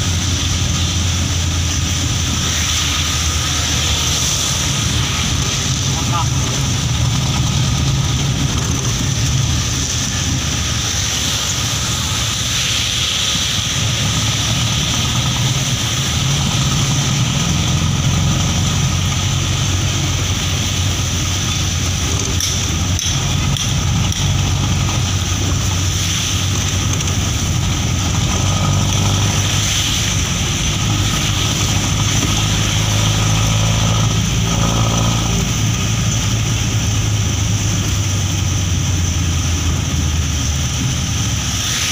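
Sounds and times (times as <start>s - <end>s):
tyres hissing on wet road: 0.0s - 41.9s
vehicle engine running: 0.0s - 41.9s.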